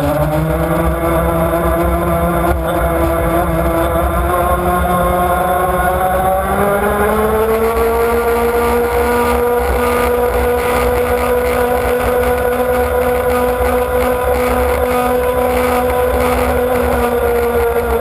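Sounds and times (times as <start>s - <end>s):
model boat motor running fast: 0.0s - 18.0s.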